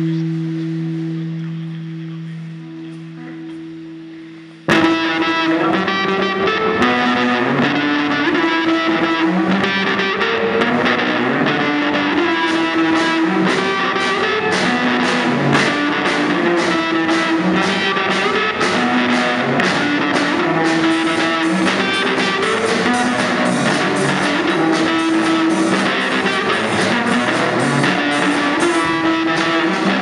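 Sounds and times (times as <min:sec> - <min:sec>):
electric guitar melody: 0:00.0 - 0:30.0
drum kit and cymbal hits: 0:04.2 - 0:30.0.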